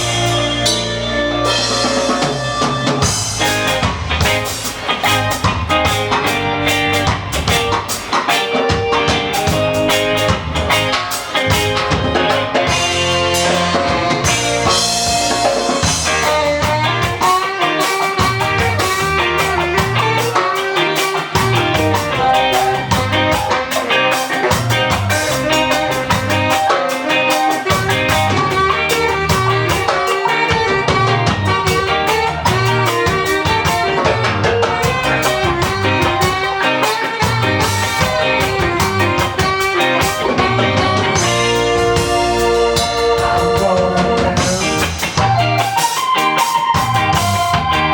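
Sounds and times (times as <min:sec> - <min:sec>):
ska band playing: 0:00.0 - 0:47.9.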